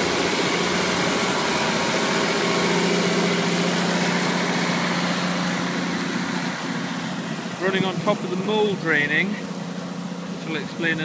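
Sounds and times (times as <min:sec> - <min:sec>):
tractor diesel engine passing: 0:00.0 - 0:11.0.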